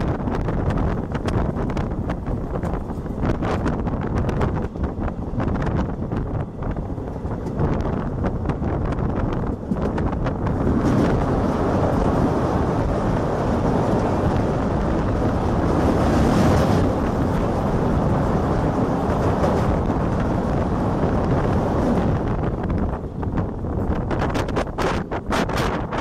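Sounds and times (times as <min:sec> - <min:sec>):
train crossing steel bridge: 0:00.0 - 0:26.0
wind buffeting microphone: 0:00.0 - 0:26.0.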